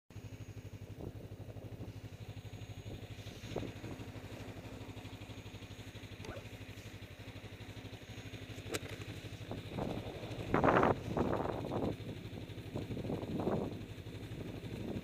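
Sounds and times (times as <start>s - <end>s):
snowmobile engine idling: 0.1s - 15.0s.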